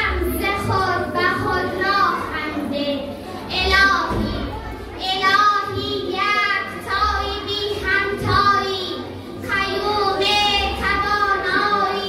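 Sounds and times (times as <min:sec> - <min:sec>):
girl reciting into a microphone: 0:00.0 - 0:12.0.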